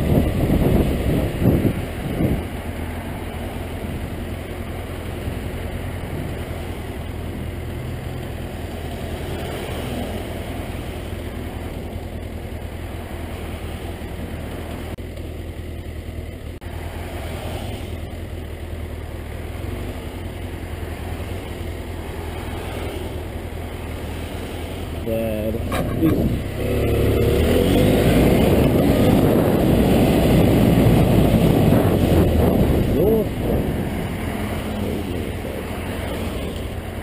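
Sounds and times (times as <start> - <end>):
motorcycle engine idling: 0.0 - 17.2, 17.8 - 27.2, 31.4 - 37.0.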